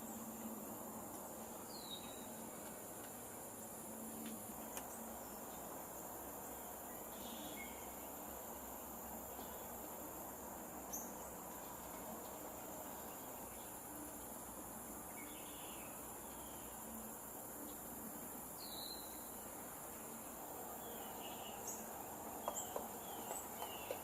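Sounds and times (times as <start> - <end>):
insect trill: 0.0 - 24.0.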